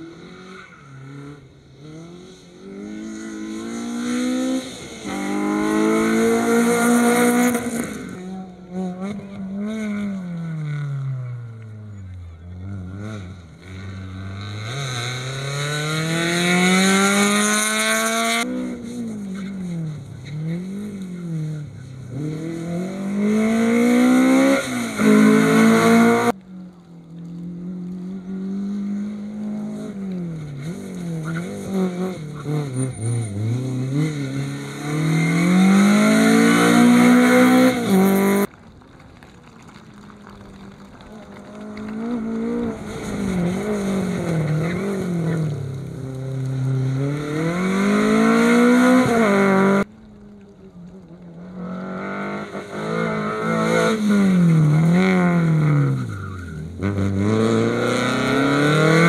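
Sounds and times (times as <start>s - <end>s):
rally car engines revving: 0.0s - 38.6s, 39.2s - 59.0s.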